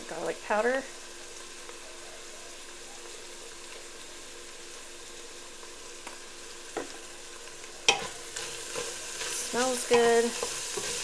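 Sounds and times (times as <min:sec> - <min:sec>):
meat and onions sizzling in a pot: 0:00.0 - 0:11.0.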